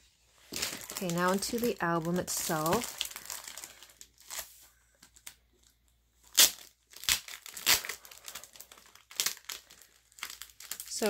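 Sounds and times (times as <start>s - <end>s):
plastic wrap crinkling and tearing: 0.4s - 11.0s.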